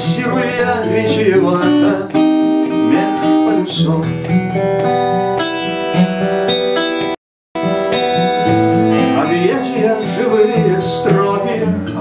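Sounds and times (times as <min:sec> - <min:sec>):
acoustic guitar strummed and picked: 0:00.0 - 0:12.0.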